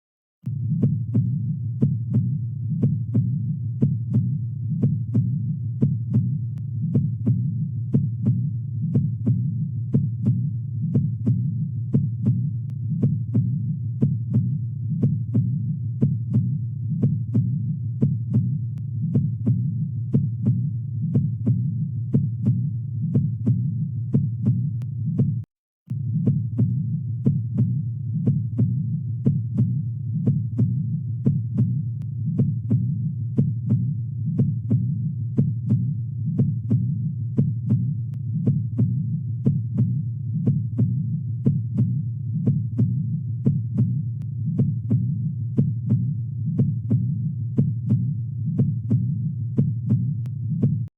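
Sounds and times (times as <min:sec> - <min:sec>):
heartbeat lub-dub: 0:00.5 - 0:50.9.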